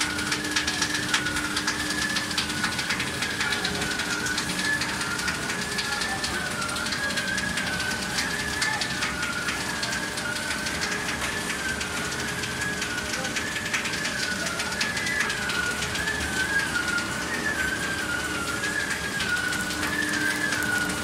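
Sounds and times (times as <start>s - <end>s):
fast faint ticking: 0.0s - 21.0s
machine high whine: 0.0s - 21.0s
mechanical rumble: 0.0s - 21.0s.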